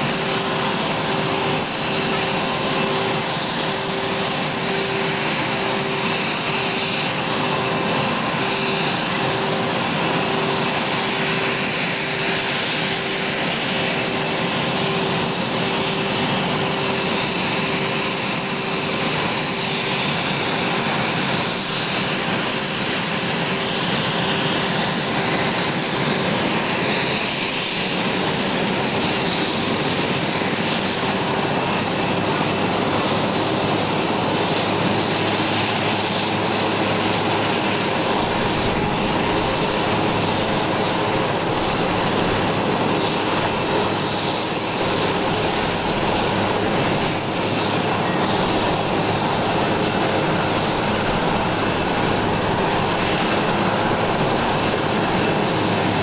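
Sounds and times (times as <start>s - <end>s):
helicopter rotor rushing noise: 0.0s - 56.0s
helicopter turbine whine: 0.0s - 56.0s.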